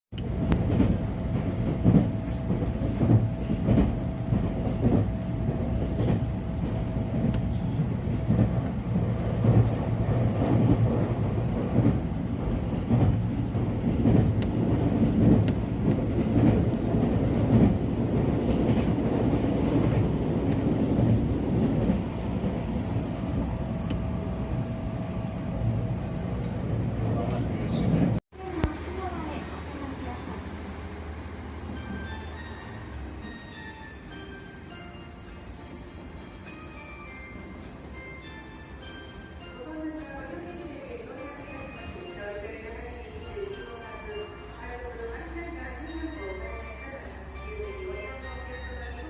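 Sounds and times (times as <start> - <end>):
train rumbling on rails: 0.1 - 49.0.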